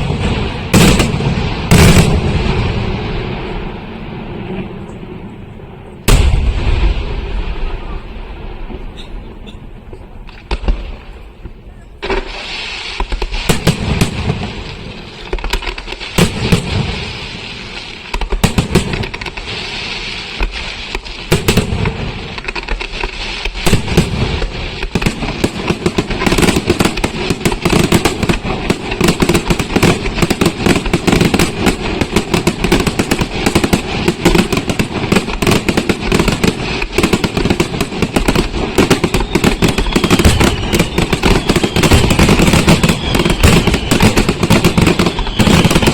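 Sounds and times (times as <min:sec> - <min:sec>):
rapid firework bangs: 0:00.0 - 0:04.6, 0:06.1 - 0:09.0, 0:10.3 - 0:11.1, 0:12.0 - 0:45.9
fireworks crackling: 0:00.0 - 0:45.9.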